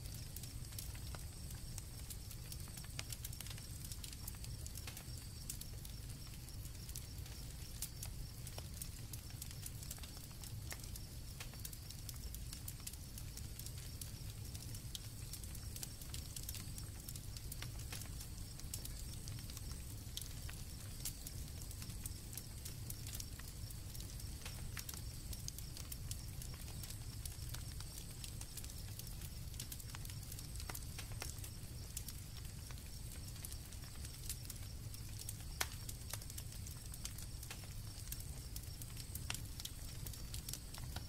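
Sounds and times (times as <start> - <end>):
campfire crackling and popping: 0.0 - 41.0
crickets chirring: 0.0 - 41.0.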